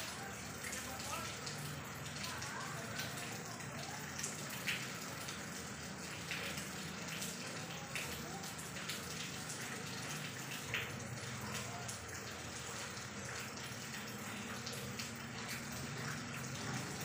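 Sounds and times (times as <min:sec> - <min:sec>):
drips striking close by: 0:00.0 - 0:17.0.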